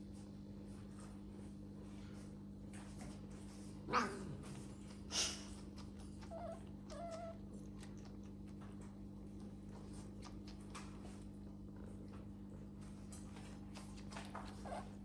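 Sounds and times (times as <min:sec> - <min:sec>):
steady low hum: 0:00.0 - 0:15.0
cats tussling: 0:02.9 - 0:15.0.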